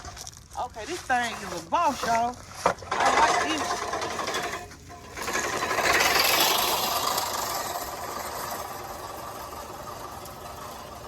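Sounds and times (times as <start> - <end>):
reel mower blades whirring: 0.0 - 11.0.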